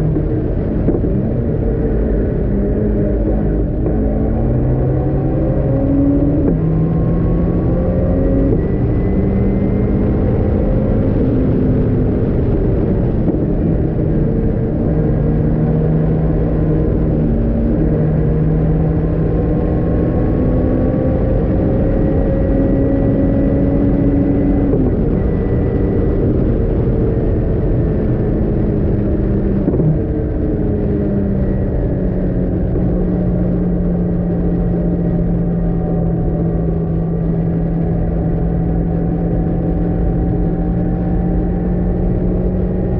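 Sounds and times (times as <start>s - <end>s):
car engine shifting gears: 0.0s - 42.9s
wind and road rumble: 0.0s - 42.9s.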